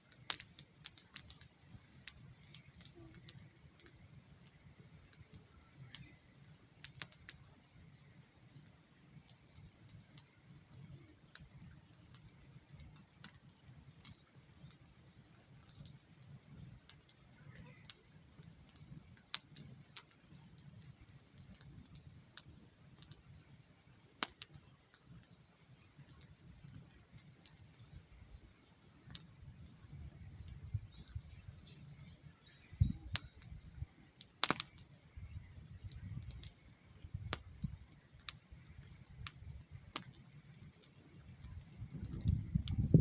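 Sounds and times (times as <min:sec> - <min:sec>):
campfire crackling: 0:00.0 - 0:43.0
fire snaps and pops: 0:00.0 - 0:43.0.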